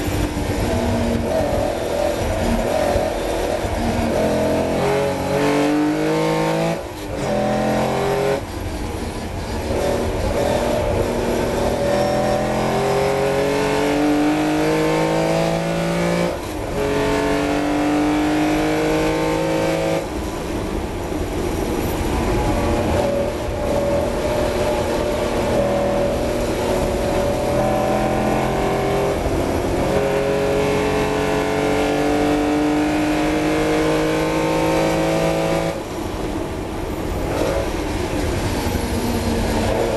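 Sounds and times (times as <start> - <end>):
car engine accelerating: 0.0 - 20.6, 21.2 - 36.2.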